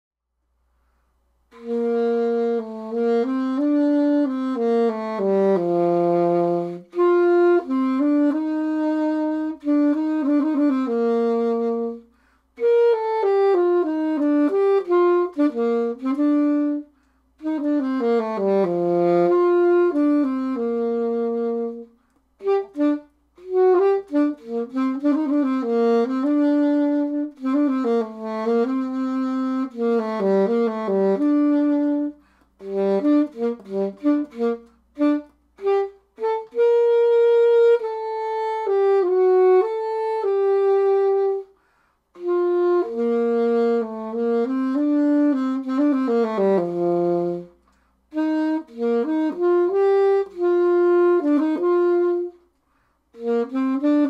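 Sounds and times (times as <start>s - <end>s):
solo alto saxophone: 0.7s - 54.0s.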